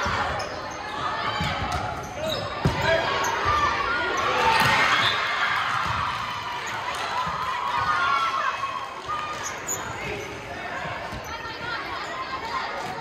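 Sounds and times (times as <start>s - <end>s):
spectators shouting and cheering: 0.0s - 13.0s.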